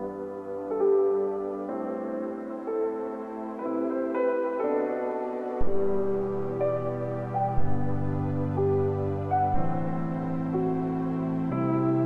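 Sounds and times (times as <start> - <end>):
soft piano ambient music: 0.0 - 12.0.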